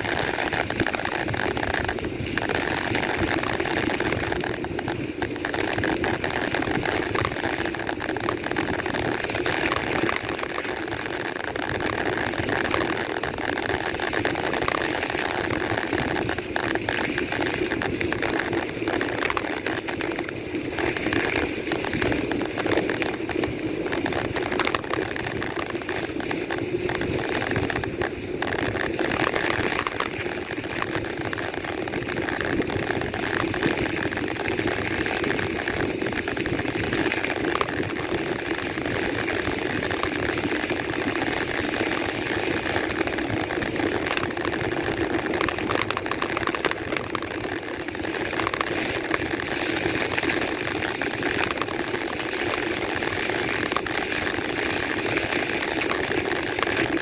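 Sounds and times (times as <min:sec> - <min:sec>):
bike running noise: 0:00.0 - 0:57.0
small clicks and rattles: 0:00.0 - 0:57.0.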